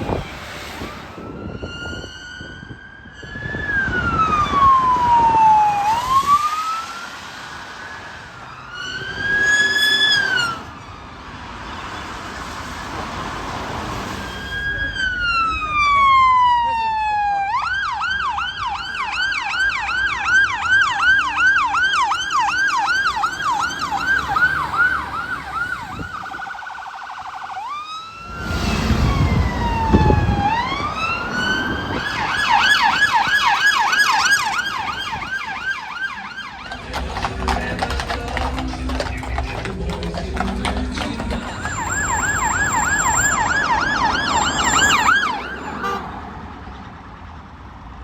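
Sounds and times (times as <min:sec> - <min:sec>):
emergency siren yelp: 0:00.0 - 0:12.8, 0:13.7 - 0:37.4, 0:38.8 - 0:46.8
vehicle rumble passing: 0:03.8 - 0:17.1, 0:18.0 - 0:27.2, 0:27.9 - 0:48.0.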